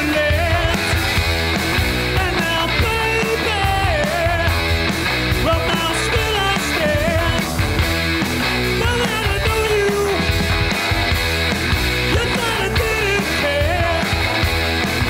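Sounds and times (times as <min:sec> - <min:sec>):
electric guitar bending notes: 0:00.0 - 0:15.0
live rock band playing: 0:00.0 - 0:15.0.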